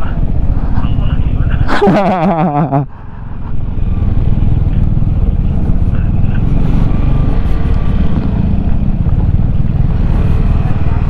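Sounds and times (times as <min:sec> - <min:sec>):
scooter engine on rough road: 0:00.0 - 0:11.0.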